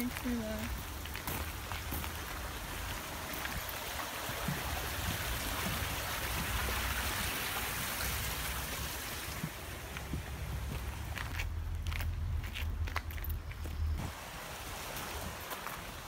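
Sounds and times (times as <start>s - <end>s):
stream rushing: 0.0s - 11.3s, 14.0s - 16.0s.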